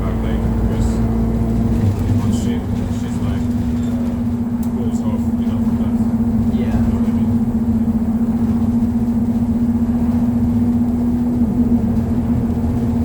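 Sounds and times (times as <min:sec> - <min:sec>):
bus cabin low rumble: 0:00.0 - 0:13.0
constant hum or whine: 0:00.0 - 0:13.0.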